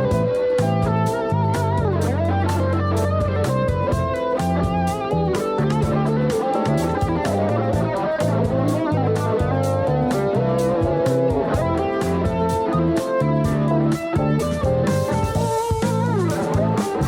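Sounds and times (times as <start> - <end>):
electric guitar rock music: 0.0 - 17.0.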